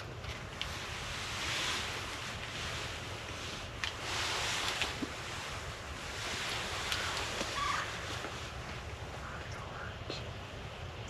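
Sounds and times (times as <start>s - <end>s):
wind rushing through woods: 0.0s - 11.0s.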